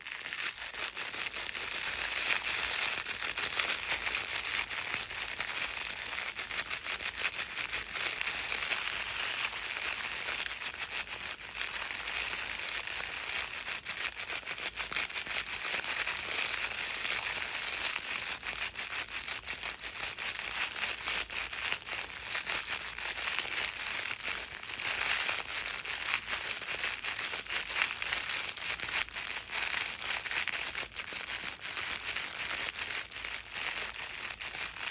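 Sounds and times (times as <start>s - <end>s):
crinkle book crinkling: 0.0s - 34.9s.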